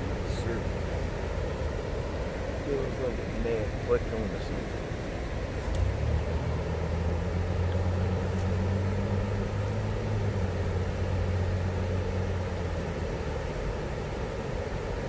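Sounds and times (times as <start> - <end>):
background rush: 0.0 - 15.0
passing vehicle engine hum: 0.0 - 15.0.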